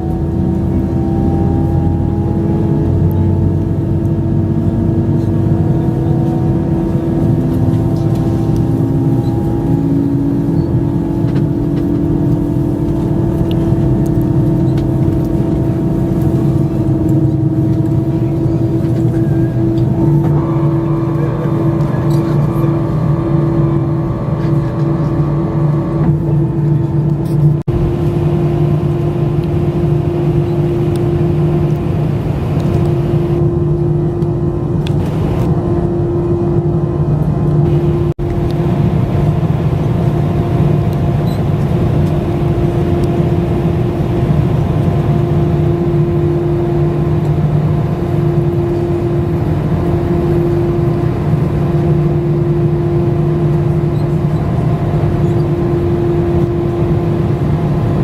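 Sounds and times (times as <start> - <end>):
jet cabin engine drone: 0.0 - 58.0.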